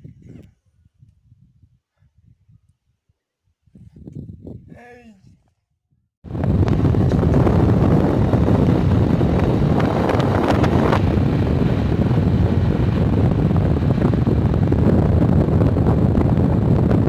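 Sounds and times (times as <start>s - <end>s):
wind buffeting microphone: 0.0s - 5.6s, 6.2s - 17.0s.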